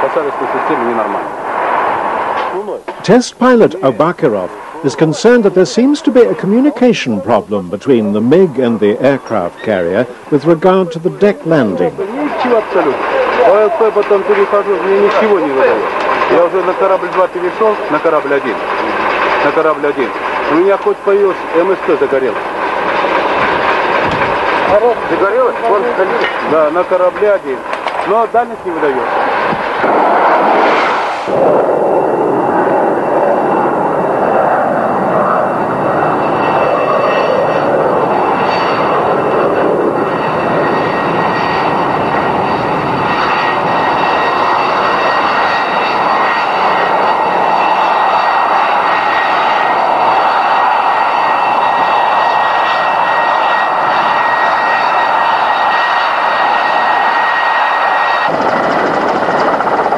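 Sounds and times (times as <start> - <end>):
jet engine roar with whine: 0.0 - 59.9.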